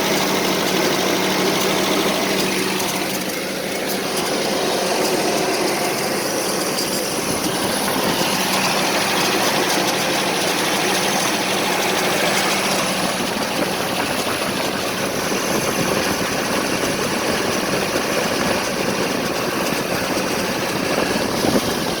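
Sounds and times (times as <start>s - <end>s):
truck engine idling roughly: 0.0s - 22.0s.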